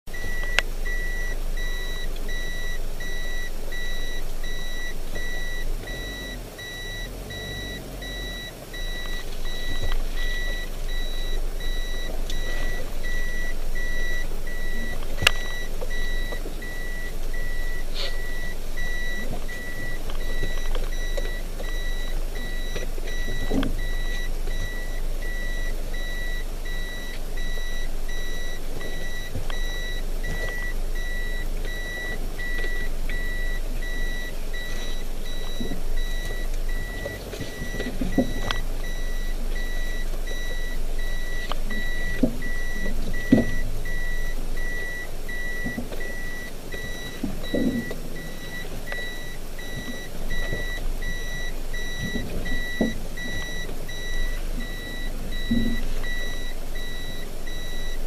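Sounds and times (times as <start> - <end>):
low vehicle rumble: 0.0 - 58.0
reverse warning beeper: 0.1 - 58.0.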